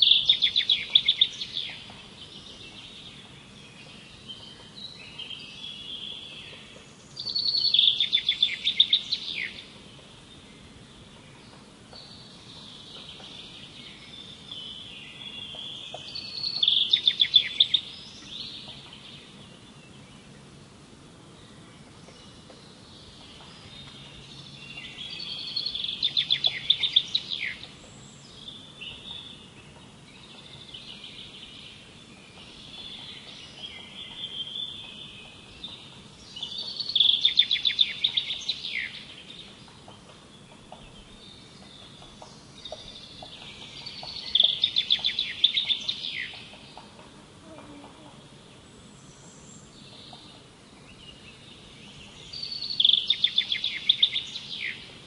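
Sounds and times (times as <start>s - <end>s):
songbird trilling: 0.0s - 20.0s, 22.2s - 48.1s, 49.0s - 55.0s
faint outdoor background: 0.0s - 55.0s.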